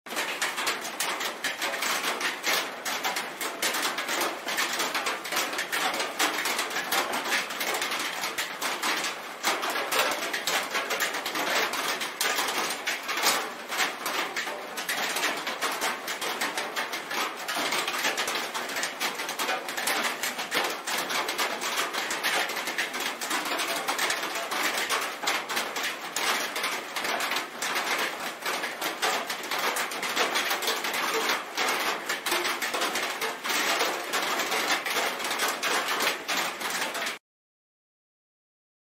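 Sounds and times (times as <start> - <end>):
rain on a metal roof: 0.1 - 37.2.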